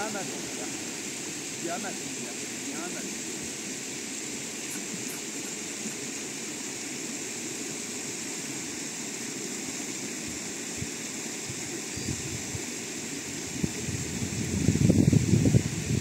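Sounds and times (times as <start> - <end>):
river water rushing: 0.0 - 14.7.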